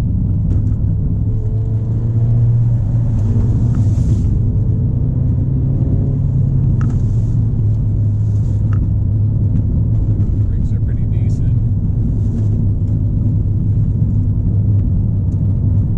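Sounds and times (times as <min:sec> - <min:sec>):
car engine droning: 0:00.0 - 0:15.9.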